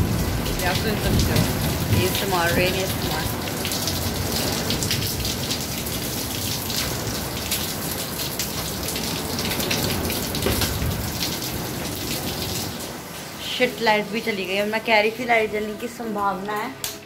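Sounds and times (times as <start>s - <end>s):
heavy rain on concrete: 0.0s - 17.0s.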